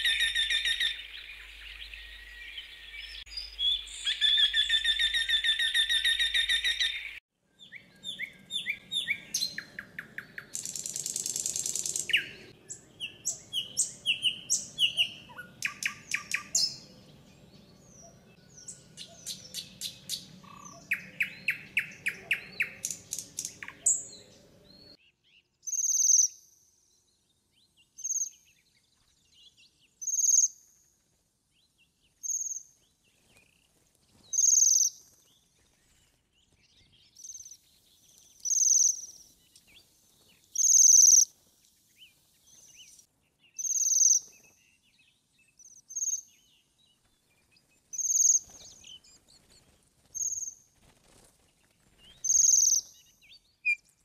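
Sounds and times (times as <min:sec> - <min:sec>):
songbird singing: 0:00.0 - 0:50.6, 0:51.5 - 0:54.0.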